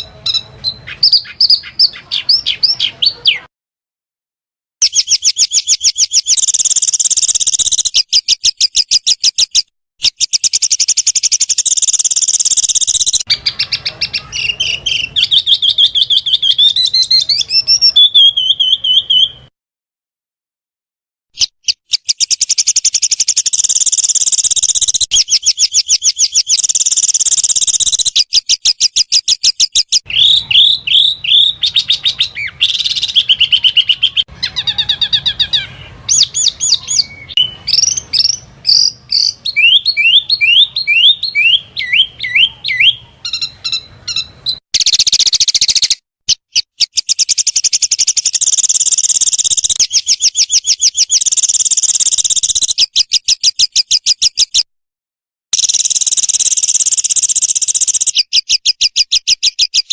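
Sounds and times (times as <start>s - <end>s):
songbirds chirping and trilling: 0.0s - 3.5s, 4.8s - 19.5s, 21.4s - 54.7s, 55.6s - 59.9s.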